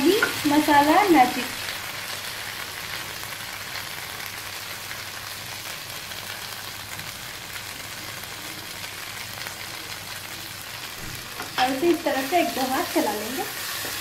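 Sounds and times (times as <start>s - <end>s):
okra sizzling in a pan: 0.0s - 14.0s.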